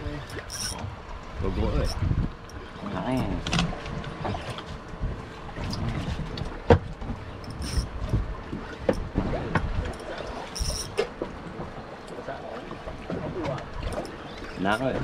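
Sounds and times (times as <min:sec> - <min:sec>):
water around a boat: 0:00.0 - 0:15.0
wind: 0:00.0 - 0:15.0.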